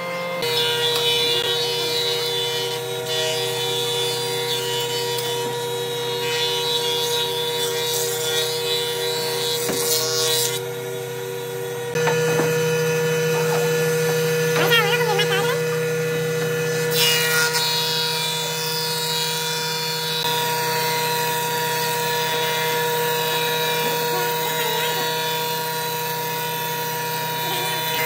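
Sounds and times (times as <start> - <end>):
wood planing machines running: 0.0 - 28.0.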